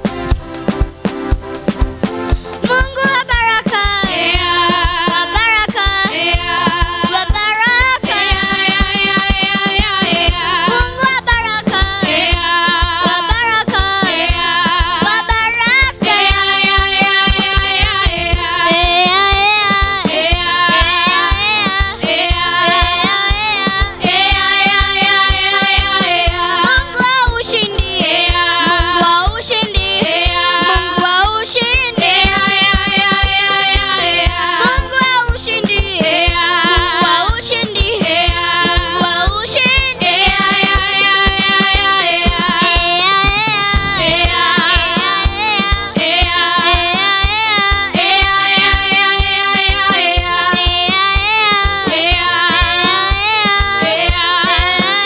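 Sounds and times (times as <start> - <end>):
music with steady beat: 0.0 - 55.0
girl singing lead: 2.6 - 55.0
children singing into microphones: 2.7 - 55.0.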